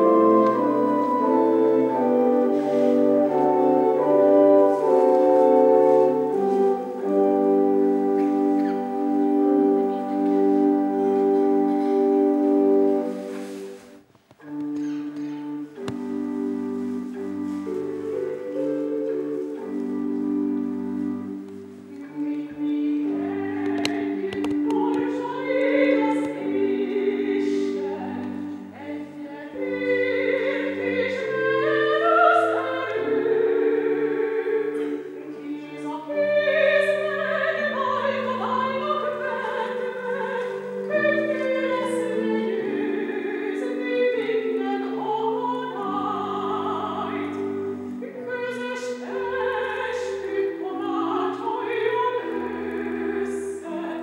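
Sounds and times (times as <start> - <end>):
operatic singing with vibrato: 0.0 - 14.0, 15.5 - 54.0
held accompanying chords: 0.0 - 54.0.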